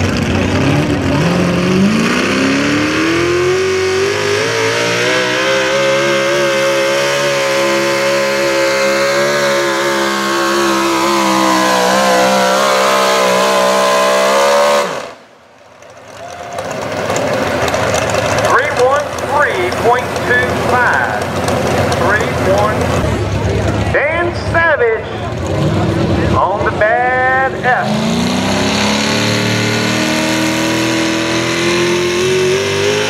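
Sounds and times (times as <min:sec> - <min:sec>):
truck engine at high revs: 0:00.0 - 0:33.0.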